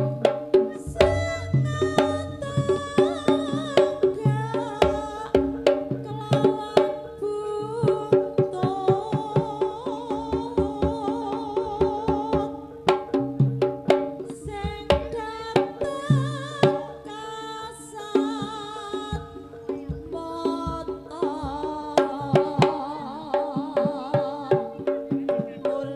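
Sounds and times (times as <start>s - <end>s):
hand drums beating: 0.0s - 25.9s
pitched accompaniment: 0.0s - 25.9s
wavering high melody: 0.0s - 25.9s.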